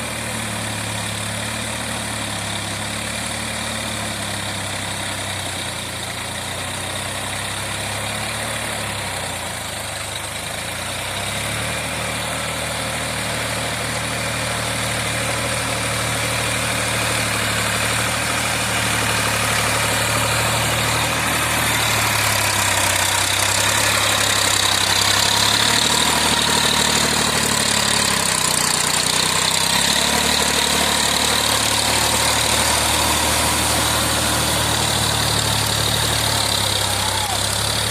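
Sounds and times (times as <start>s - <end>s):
diesel tractor engine running: 0.0s - 37.9s.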